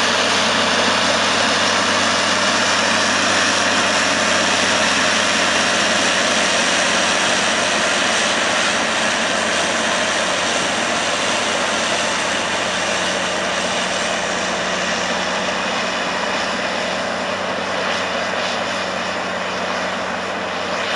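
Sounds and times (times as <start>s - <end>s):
bulldozer diesel engine under load: 0.0s - 20.9s.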